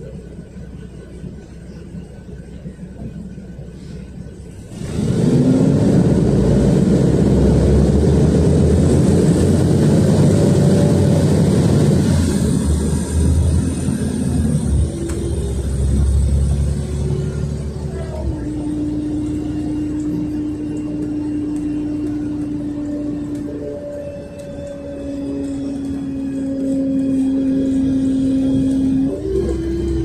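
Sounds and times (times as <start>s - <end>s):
bus engine accelerating: 0.0s - 30.0s.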